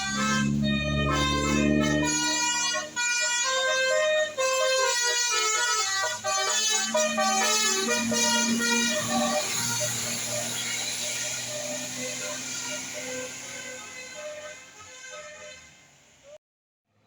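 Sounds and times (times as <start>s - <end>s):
air horns playing a tune: 0.0s - 16.4s.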